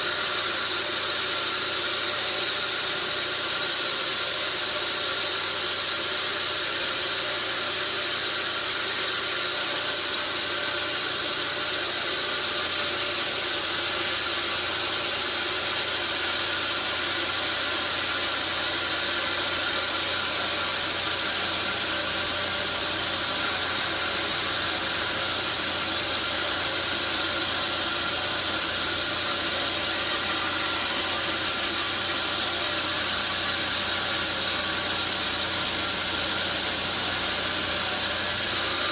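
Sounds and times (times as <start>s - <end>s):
sawmill machinery whine: 0.0s - 38.9s.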